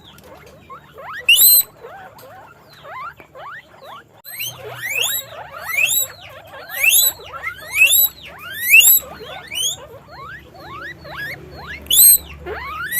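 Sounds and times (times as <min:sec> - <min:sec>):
guinea pig squeaking: 0:00.0 - 0:12.9.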